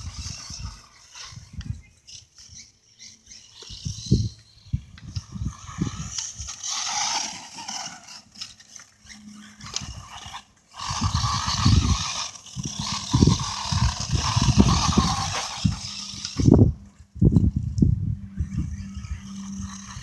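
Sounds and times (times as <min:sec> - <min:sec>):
toy truck electric motor whining: 0:00.0 - 0:20.0.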